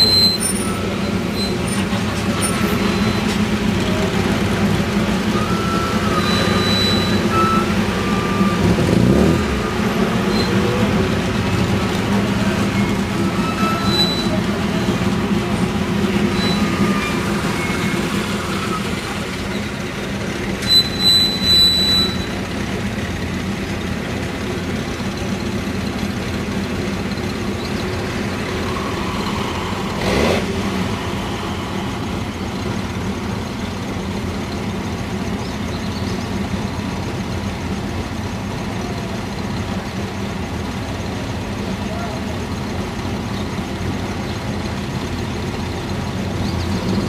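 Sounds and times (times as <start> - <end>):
car engines running slowly: 0.0 - 47.0.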